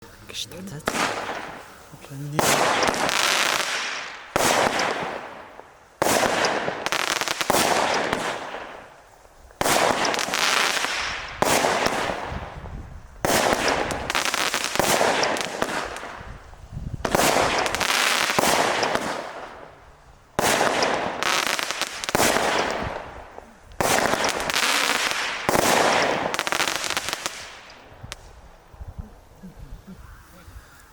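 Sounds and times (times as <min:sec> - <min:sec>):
firework bangs with crackling: 0:00.3 - 0:28.6.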